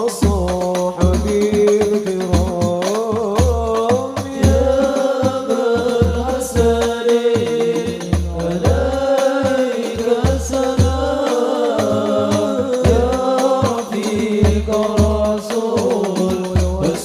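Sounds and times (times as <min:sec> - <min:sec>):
frame drum ensemble playing: 0:00.0 - 0:17.0
person singing devotional chant: 0:00.0 - 0:17.0.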